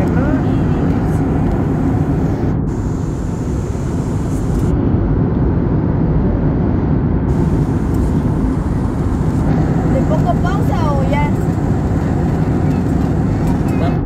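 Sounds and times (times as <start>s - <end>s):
jet cabin engine rush: 0.0s - 14.0s.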